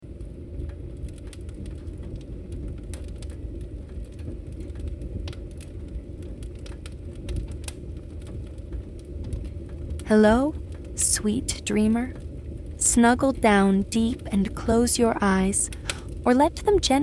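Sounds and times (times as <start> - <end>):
fire crackling: 0.0 - 17.0
fire pops and snaps: 0.0 - 17.0
low rumble of burning: 0.0 - 17.0.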